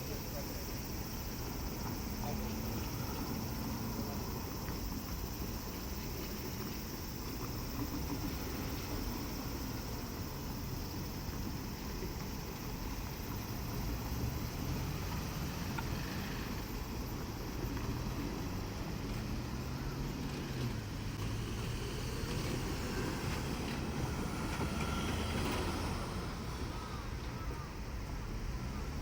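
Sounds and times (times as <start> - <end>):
diesel railcar engines droning: 0.0 - 29.0.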